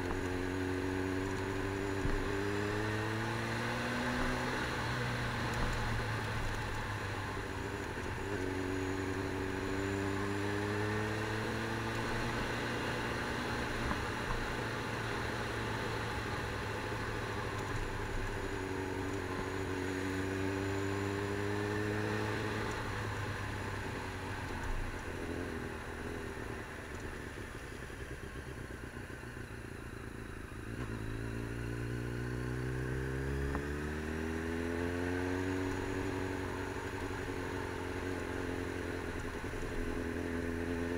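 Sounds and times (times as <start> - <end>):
vehicle engine accelerating: 0.0 - 29.0, 30.6 - 40.9
road travel noise: 0.0 - 40.9.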